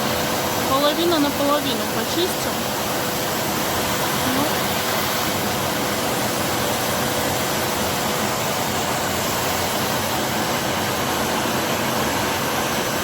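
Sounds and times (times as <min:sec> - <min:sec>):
vacuum cleaner suction: 0:00.0 - 0:13.0.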